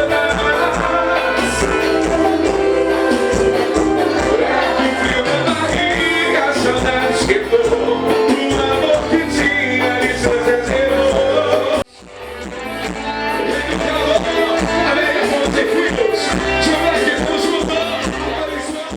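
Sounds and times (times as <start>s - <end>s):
person singing: 0.0s - 11.9s, 13.4s - 18.9s
live band music: 0.0s - 18.9s.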